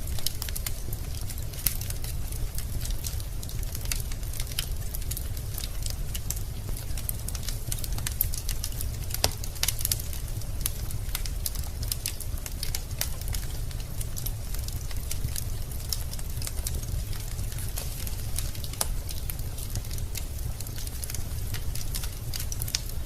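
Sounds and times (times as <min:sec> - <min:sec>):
low rumble of flames: 0:00.0 - 0:23.0.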